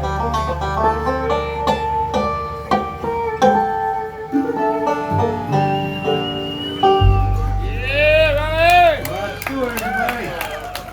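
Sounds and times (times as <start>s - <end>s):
banjo picking fast notes: 0.0s - 10.9s
plucked string instruments: 0.0s - 10.9s.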